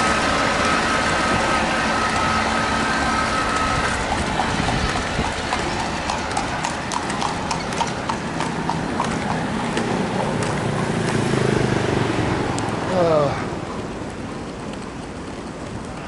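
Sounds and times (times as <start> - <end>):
horse hooves clip-clopping: 0.0 - 12.8, 13.6 - 16.0.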